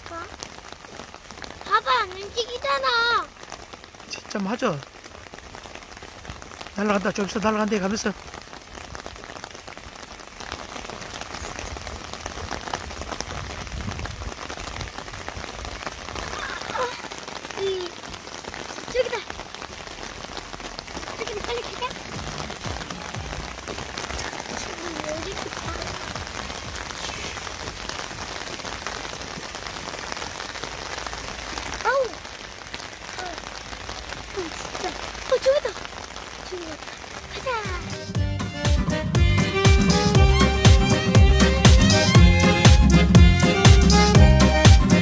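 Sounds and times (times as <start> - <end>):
rain pattering on water and wood: 0.0 - 45.0.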